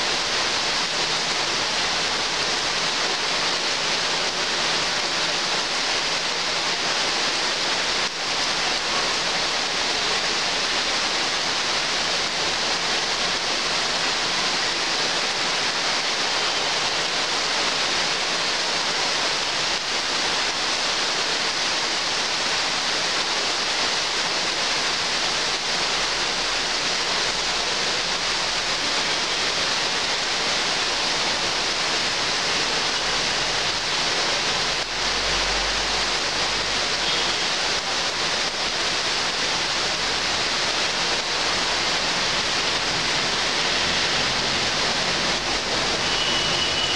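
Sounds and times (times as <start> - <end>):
heavy rain on foliage: 0.0 - 46.9.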